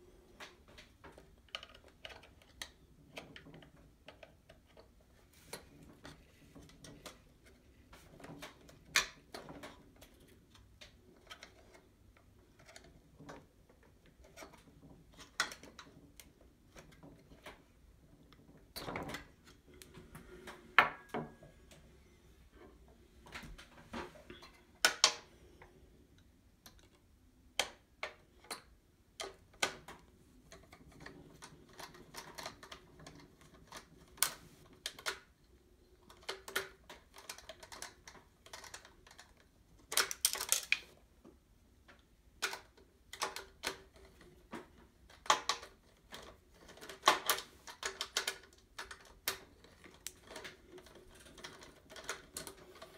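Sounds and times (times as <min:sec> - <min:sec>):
plastic parts clicking and tapping: 0:00.3 - 0:21.8, 0:22.6 - 0:52.9.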